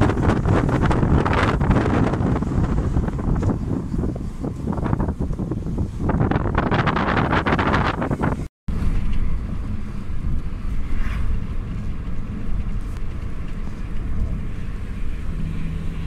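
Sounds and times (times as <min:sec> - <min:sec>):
car tyres and engine rumble: 0:00.0 - 0:16.0
wind buffeting microphone: 0:00.0 - 0:16.0.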